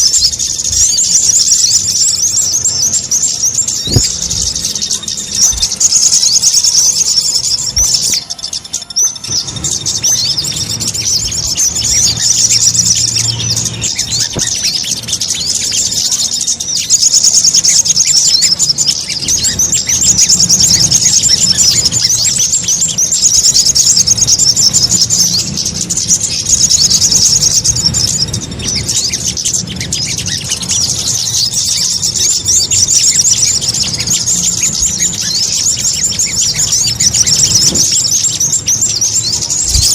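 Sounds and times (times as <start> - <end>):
high-pitched bird chirping: 0.0 - 39.9
low steady hum: 0.0 - 39.9.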